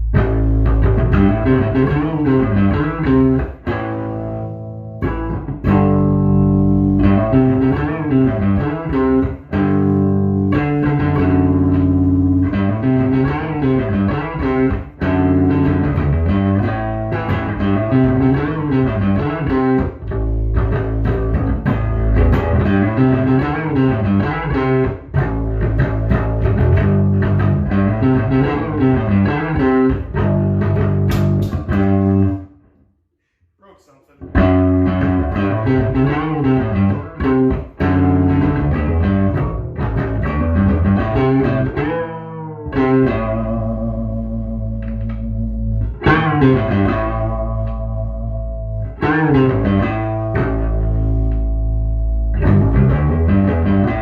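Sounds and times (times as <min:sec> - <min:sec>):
electric bass plucked notes: 0:00.0 - 0:32.6, 0:34.2 - 0:54.0.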